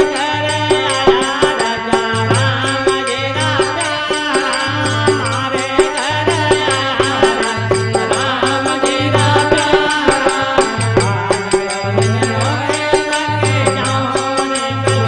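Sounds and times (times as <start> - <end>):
rattling percussion rhythm: 0.0 - 15.0.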